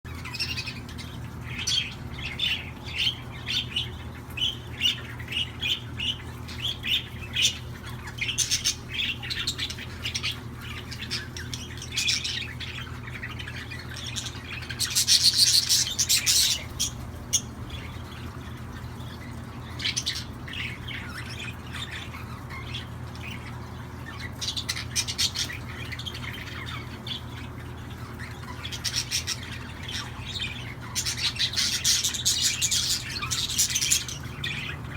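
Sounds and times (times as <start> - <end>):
budgerigars chirping and squawking: 0.1 - 34.9
steady low hum: 0.1 - 34.9.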